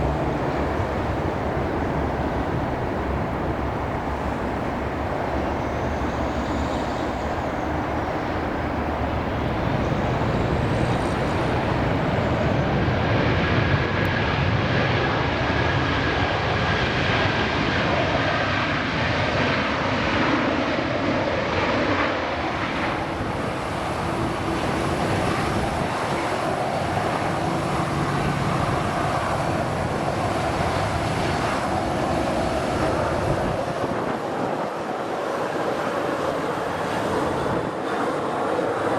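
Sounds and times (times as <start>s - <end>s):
jet engine with whining tones: 0.0s - 38.9s.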